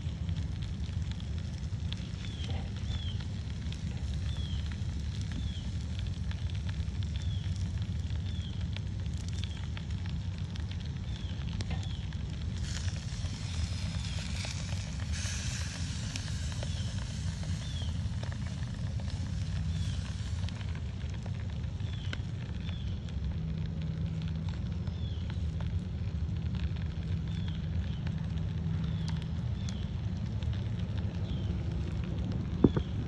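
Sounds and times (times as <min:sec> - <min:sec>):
charcoal fire crackling: 0:00.0 - 0:33.0.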